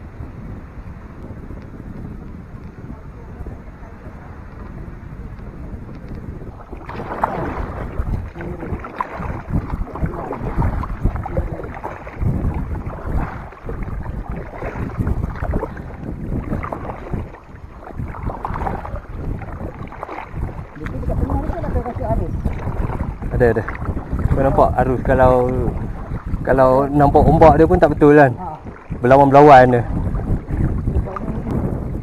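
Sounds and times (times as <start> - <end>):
water sloshing against hull: 0.0 - 32.0
wind buffeting microphone: 0.0 - 32.0
paddle blades splashing: 0.9 - 32.0.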